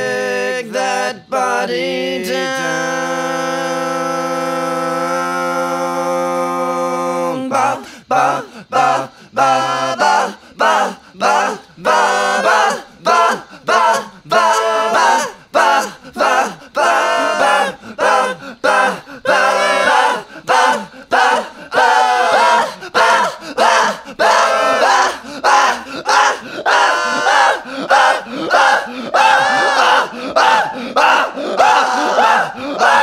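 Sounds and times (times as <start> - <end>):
a cappella group chanting: 0.0 - 33.0.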